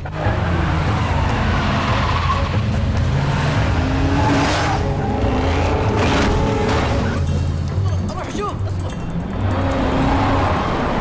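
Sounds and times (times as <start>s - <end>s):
car engines running hard: 0.0s - 11.0s.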